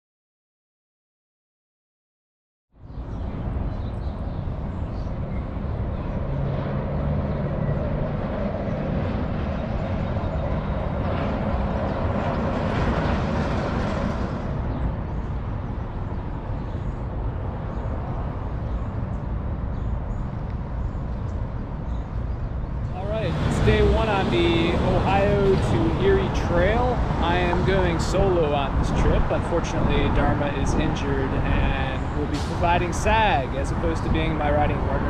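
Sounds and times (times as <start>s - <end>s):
traffic noise: 2.8s - 35.0s
wind rumble on microphone: 2.8s - 35.0s.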